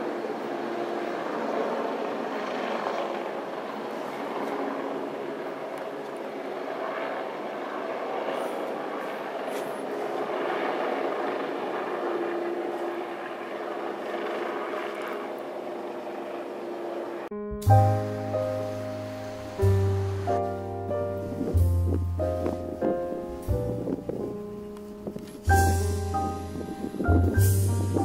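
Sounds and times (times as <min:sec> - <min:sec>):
helicopter rotor and engine: 0:00.0 - 0:17.3, 0:17.9 - 0:28.0.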